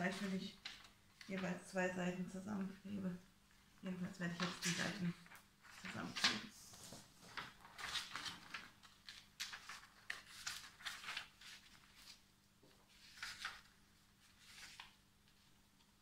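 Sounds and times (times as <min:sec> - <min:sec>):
paper rustling: 0:00.0 - 0:01.6, 0:04.2 - 0:15.6.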